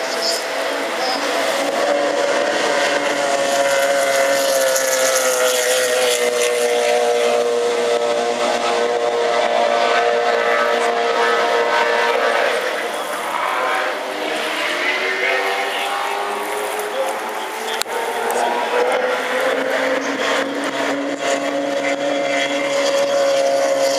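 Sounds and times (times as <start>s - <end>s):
powerboat engine at high revs: 0.0s - 23.9s.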